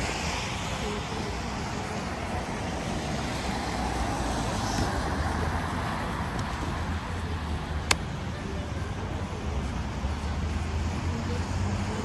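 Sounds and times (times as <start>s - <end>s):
tyres on wet road: 0.0s - 12.0s.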